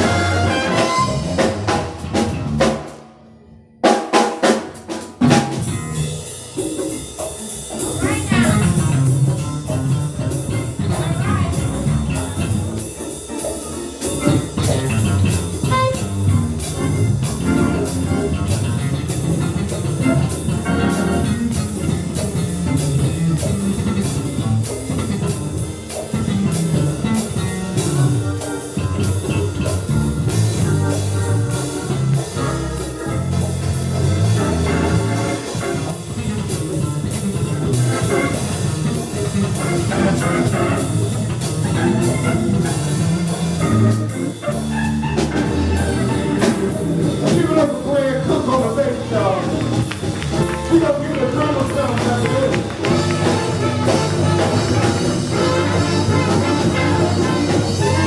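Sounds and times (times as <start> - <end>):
drum kit beat: 0.0 - 3.1, 3.8 - 58.0
live instrumental band: 0.0 - 58.0.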